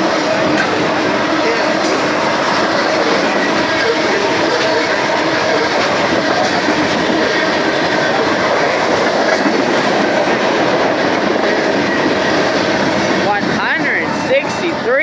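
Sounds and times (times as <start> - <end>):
steel train wheels on rails: 0.0 - 15.0.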